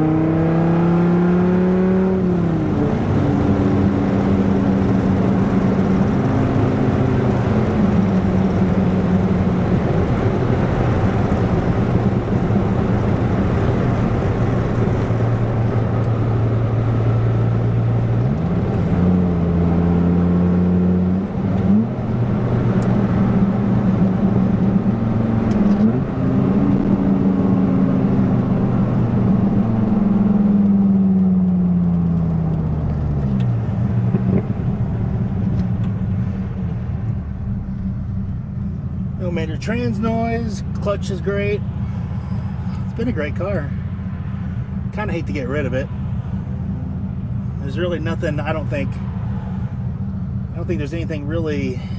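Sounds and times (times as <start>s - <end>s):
sports car engine accelerating: 0.0s - 51.9s.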